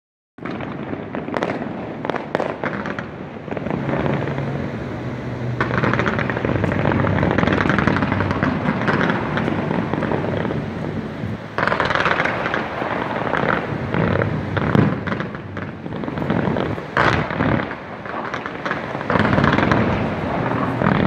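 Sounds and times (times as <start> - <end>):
fireworks bangs and crackling: 0.4 - 21.0.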